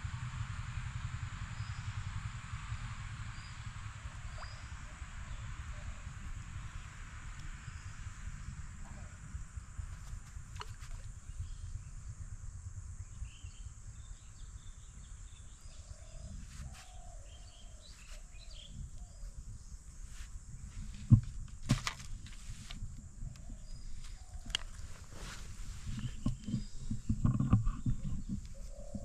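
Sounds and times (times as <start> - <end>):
birds calling faintly: 3.4 - 12.2, 13.0 - 29.0.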